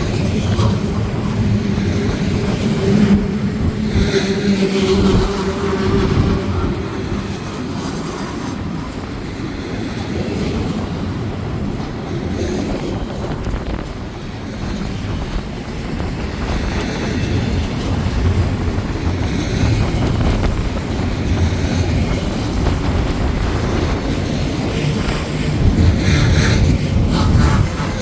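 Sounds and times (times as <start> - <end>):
freight train rolling past: 0.0 - 28.0
wind buffeting microphone: 0.0 - 28.0.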